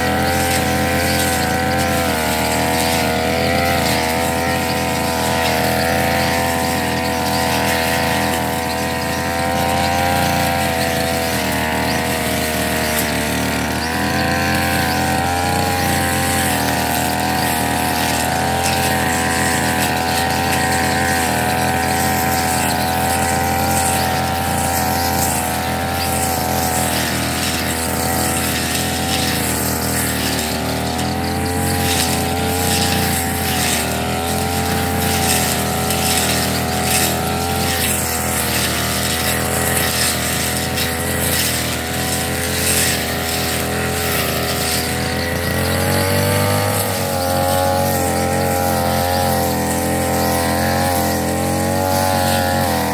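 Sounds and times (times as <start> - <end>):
brush cutter engine at high revs: 0.0 - 52.9.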